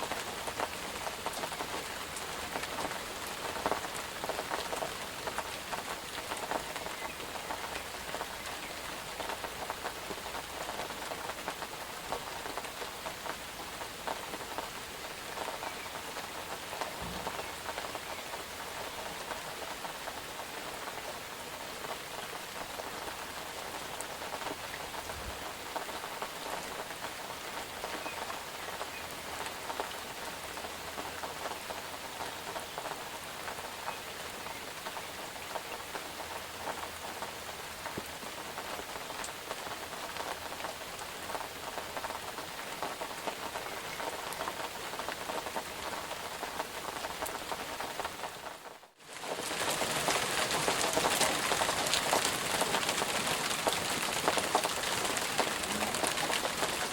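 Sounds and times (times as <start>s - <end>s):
steady rain patter: 0.0s - 56.9s.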